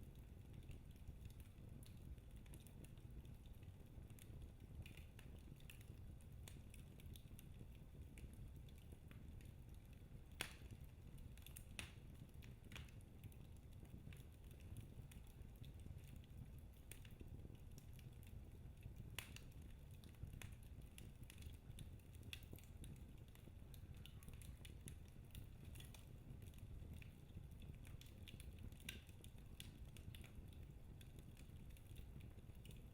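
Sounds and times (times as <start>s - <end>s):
low rumble of flames: 0.0s - 32.9s
wood fire crackling and popping: 0.0s - 32.9s.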